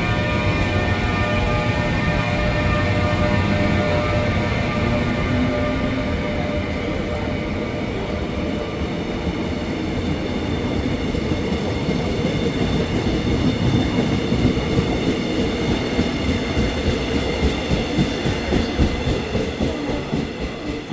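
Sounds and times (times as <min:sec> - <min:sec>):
train coaches rumbling past: 0:00.0 - 0:20.9.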